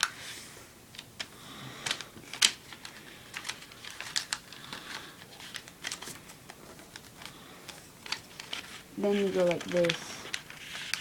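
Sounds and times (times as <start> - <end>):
paper crinkling and folding: 1.8 - 11.0.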